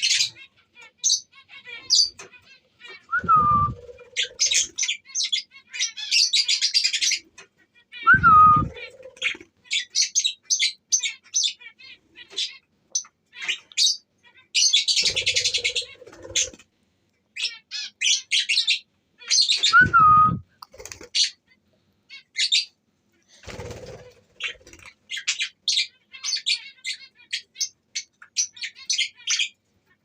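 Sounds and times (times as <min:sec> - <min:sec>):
budgerigars chirping: 0:00.0 - 0:03.1, 0:03.9 - 0:16.6, 0:17.4 - 0:19.8, 0:21.2 - 0:22.8, 0:23.6 - 0:29.6.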